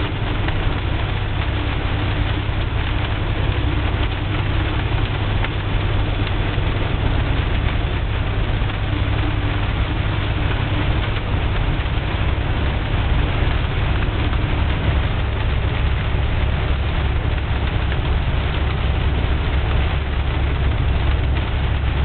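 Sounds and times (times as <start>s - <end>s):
heavy rain on car: 0.0s - 22.0s
low rumble: 0.0s - 22.0s.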